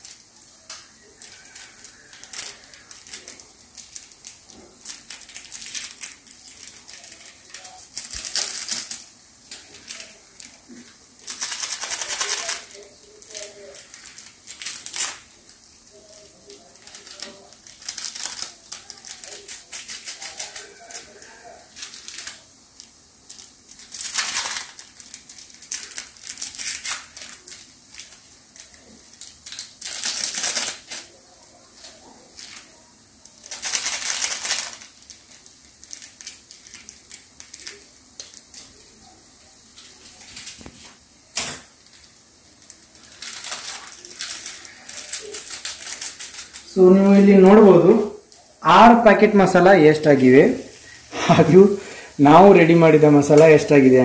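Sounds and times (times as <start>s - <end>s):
foil sachets crinkling: 0.0s - 54.0s.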